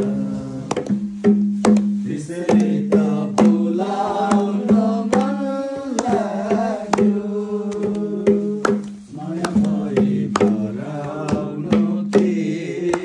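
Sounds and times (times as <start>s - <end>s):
hand drum beat: 0.0s - 13.0s.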